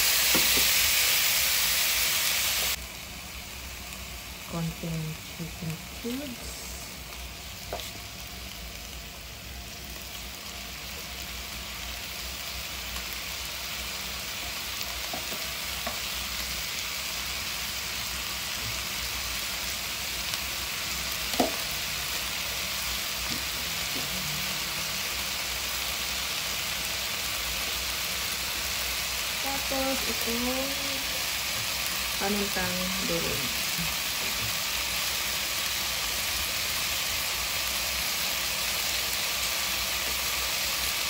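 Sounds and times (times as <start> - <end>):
chicken sizzling in a pot: 0.0 - 41.0.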